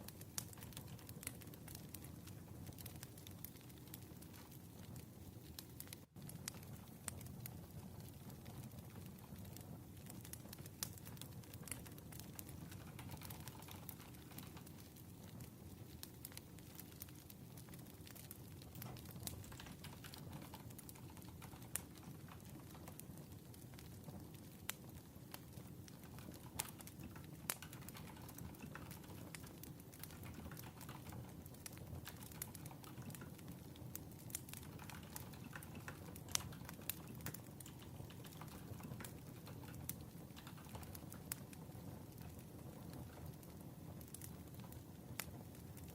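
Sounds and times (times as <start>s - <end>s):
fire pops and snaps: 0.0s - 45.9s
wood fire crackling: 0.0s - 45.9s.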